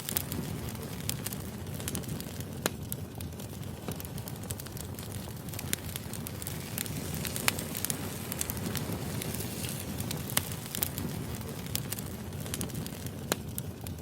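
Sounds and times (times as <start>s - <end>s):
burning logs crackling and popping: 0.0s - 14.0s
wood fire rumbling and hissing: 0.0s - 14.0s.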